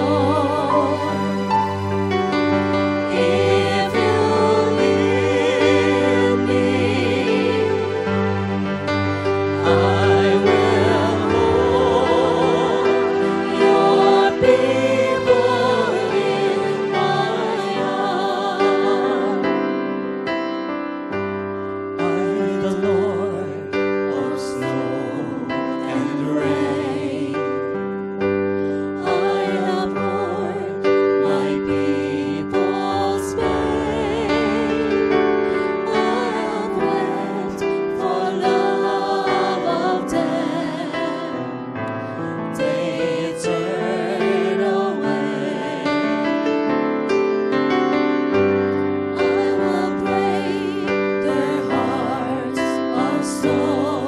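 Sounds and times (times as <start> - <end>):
choir singing: 0.0 - 20.4, 22.0 - 27.9, 28.6 - 54.0
piano and keyboard: 0.0 - 54.0.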